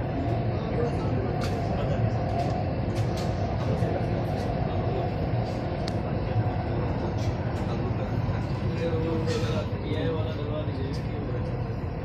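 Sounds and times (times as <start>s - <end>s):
faint whine: 0.0s - 12.0s
train rumbling on track: 0.0s - 12.0s.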